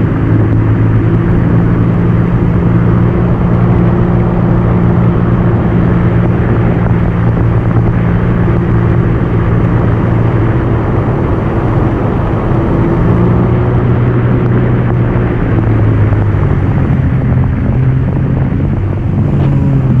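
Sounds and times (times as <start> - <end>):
watercraft engine running: 0.0 - 20.0.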